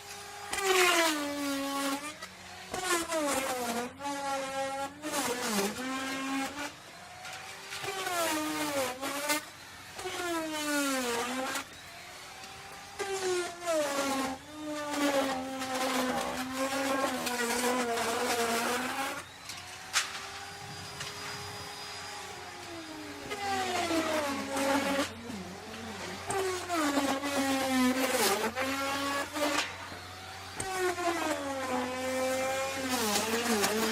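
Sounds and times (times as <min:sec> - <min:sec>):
rough wood cutting noise: 0:00.0 - 0:33.9
wood router whining: 0:00.0 - 0:33.9.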